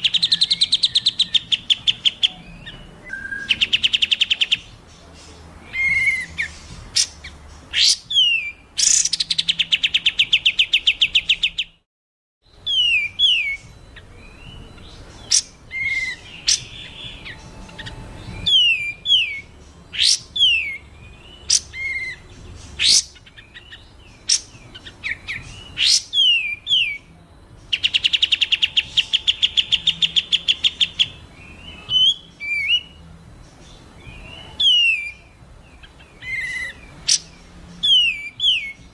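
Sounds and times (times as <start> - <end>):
rising whistled bird notes: 0.0 - 11.8, 12.5 - 33.0, 33.6 - 38.9
short down-slurred bird chirps: 0.0 - 11.8, 12.5 - 38.9
songbird trills: 0.0 - 11.8, 12.5 - 38.9.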